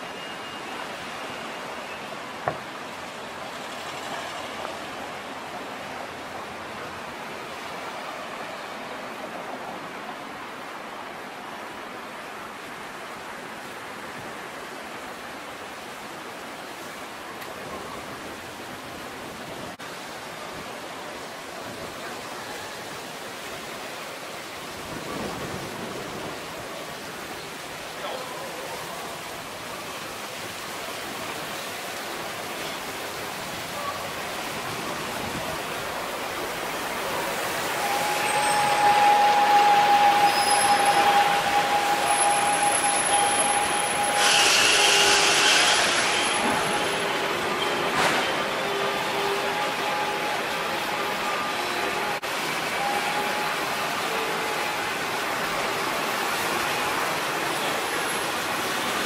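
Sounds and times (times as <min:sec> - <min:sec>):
distant traffic hiss: 0:00.0 - 0:59.0.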